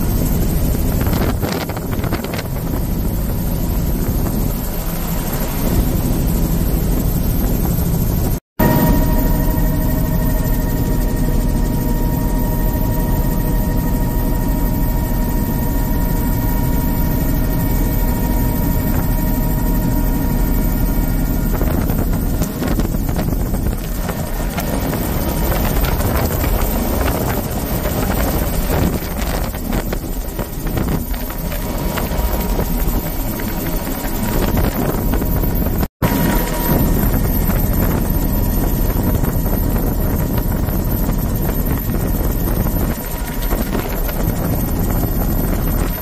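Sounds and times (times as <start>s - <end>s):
wind buffeting: 0.0s - 13.8s, 15.0s - 46.0s
helicopter rotor and engine drone: 0.0s - 46.0s
thin steady whine: 0.0s - 46.0s.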